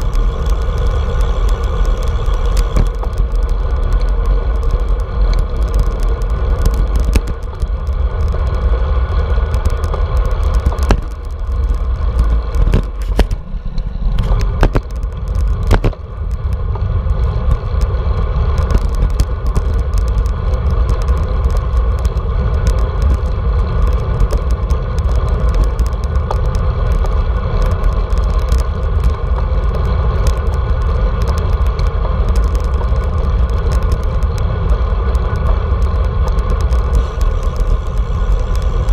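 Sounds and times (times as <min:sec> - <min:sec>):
tyre road rumble: 0:00.0 - 0:38.9
wind buffeting camera: 0:00.0 - 0:38.9.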